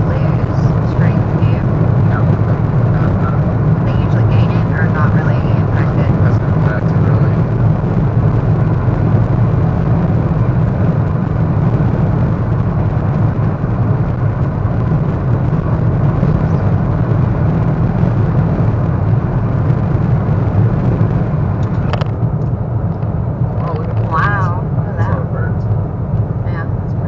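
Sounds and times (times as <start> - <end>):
car cabin road and engine rumble: 0.0 - 27.0.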